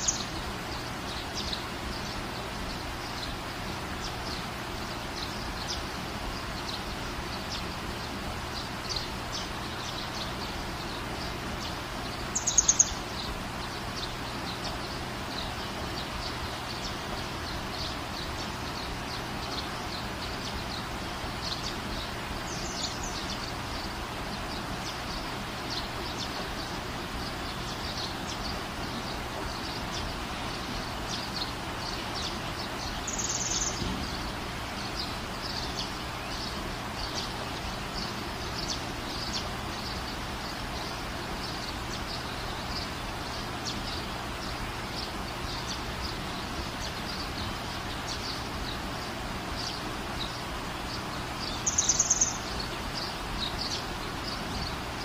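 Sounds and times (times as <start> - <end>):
rain hiss: 0.0 - 55.0
small birds chirping: 0.0 - 55.0.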